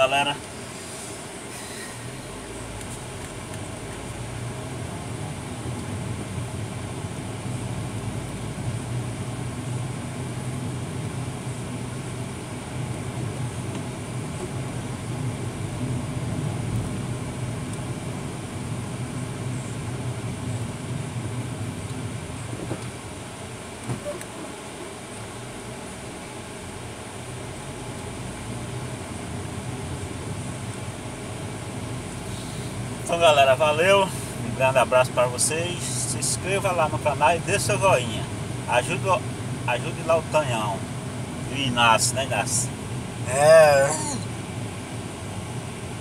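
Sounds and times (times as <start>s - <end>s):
road noise: 0.0s - 46.0s
vehicle engine running: 0.0s - 46.0s.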